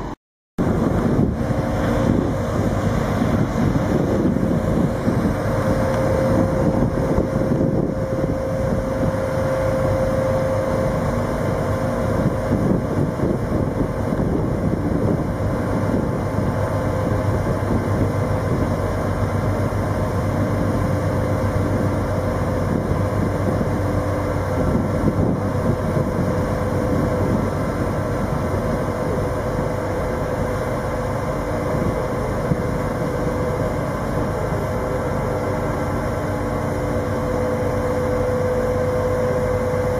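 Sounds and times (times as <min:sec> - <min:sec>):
heavy engine rumbling: 0:00.0 - 0:39.9.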